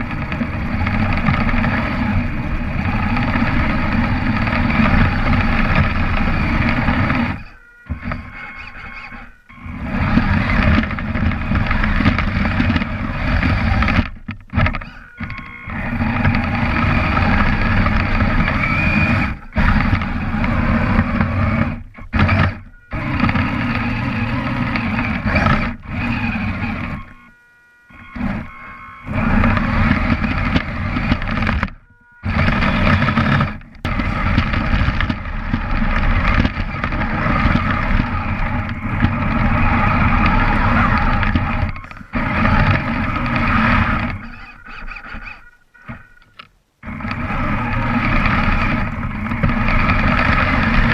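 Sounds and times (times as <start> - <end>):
electric motors and gears running: 0.0 - 50.9.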